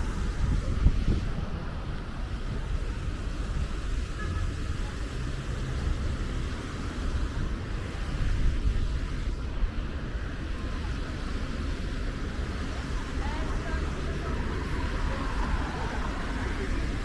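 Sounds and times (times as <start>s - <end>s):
cars passing with low rumble: 0.0s - 17.0s.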